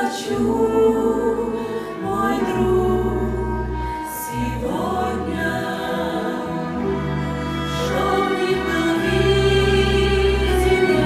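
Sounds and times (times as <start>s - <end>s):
choral singing: 0.0s - 11.0s
low bass notes: 0.3s - 11.0s.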